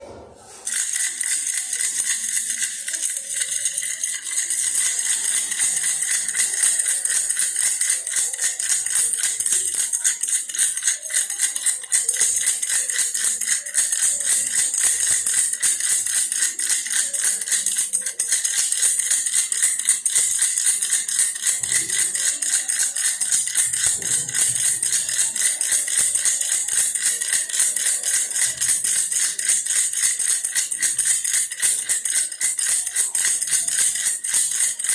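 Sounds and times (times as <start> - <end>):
baby rattle shaken: 0.5 - 34.9.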